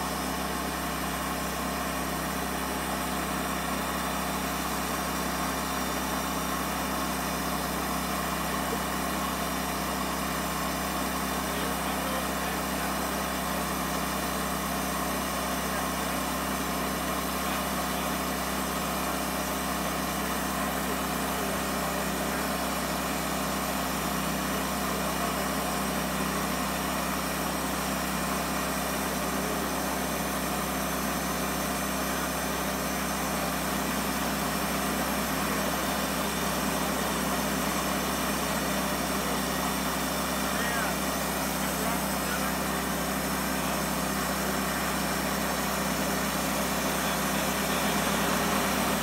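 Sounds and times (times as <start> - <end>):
sawmill machine drone: 0.0 - 49.0.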